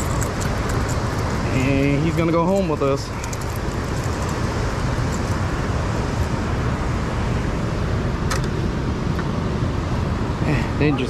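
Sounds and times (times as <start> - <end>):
low rushing roar: 0.0 - 11.0.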